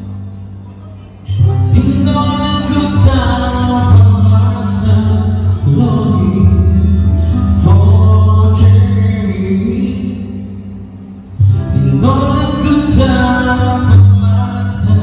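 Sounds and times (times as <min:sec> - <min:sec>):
live band with singer: 0:00.0 - 0:15.0
strong bass line: 0:00.0 - 0:15.0.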